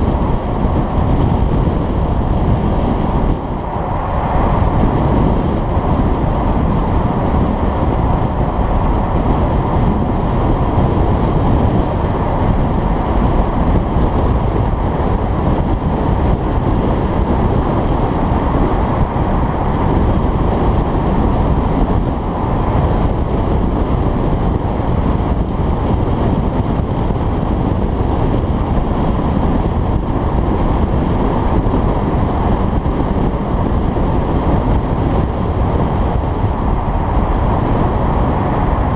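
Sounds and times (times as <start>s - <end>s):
car engine and exhaust: 0.0s - 38.9s
wind on microphone: 0.0s - 38.9s.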